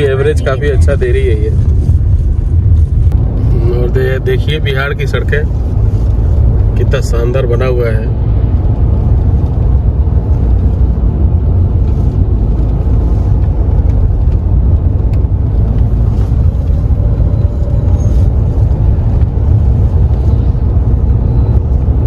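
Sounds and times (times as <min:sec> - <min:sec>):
engine and tyre rumble in car: 0:00.0 - 0:22.0.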